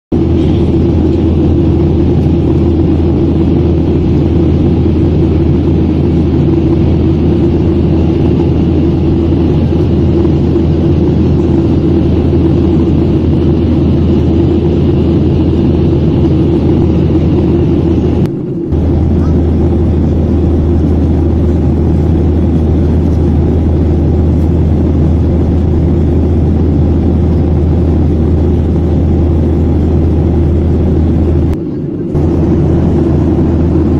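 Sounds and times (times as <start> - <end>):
jet engine cabin drone: 0.1 - 33.9
low hum: 0.1 - 33.9.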